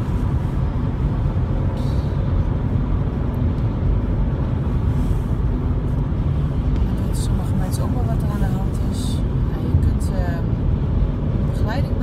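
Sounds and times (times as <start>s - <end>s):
car driving on motorway interior: 0.0s - 12.0s.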